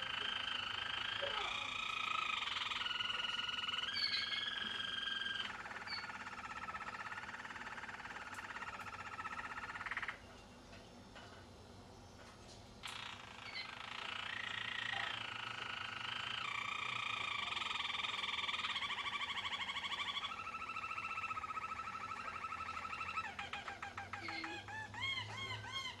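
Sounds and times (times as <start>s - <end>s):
canary singing trills: 0.0s - 10.3s, 12.8s - 26.0s.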